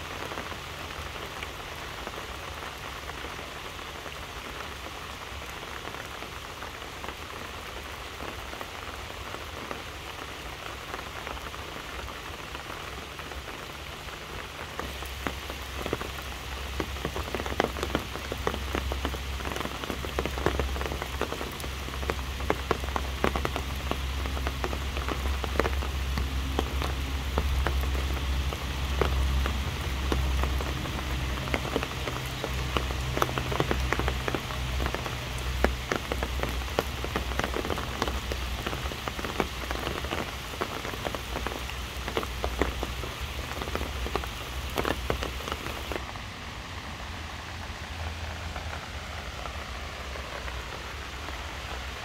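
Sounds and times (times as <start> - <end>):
rain on leaves and grass: 0.0 - 52.0.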